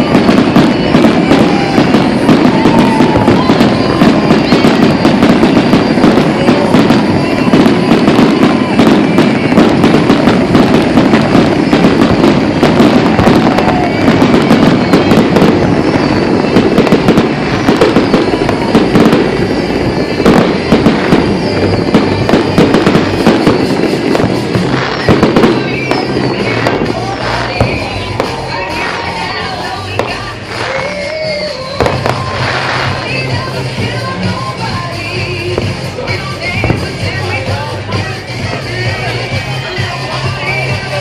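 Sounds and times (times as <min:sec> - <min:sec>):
firework whistles: 0:00.0 - 0:41.0
fireworks booming and crackling: 0:00.0 - 0:41.0.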